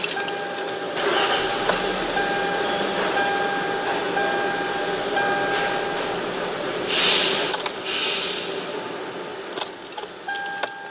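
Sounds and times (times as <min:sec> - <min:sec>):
car electronic chime pulses: 0:00.0 - 0:07.7, 0:09.9 - 0:10.9.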